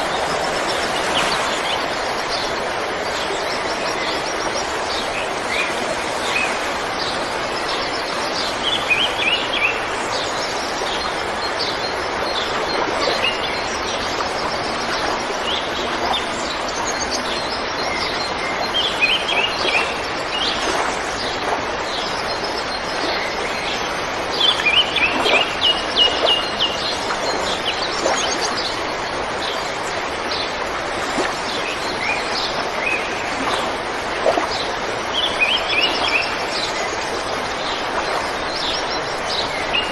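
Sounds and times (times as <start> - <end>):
river running: 0.0 - 39.9.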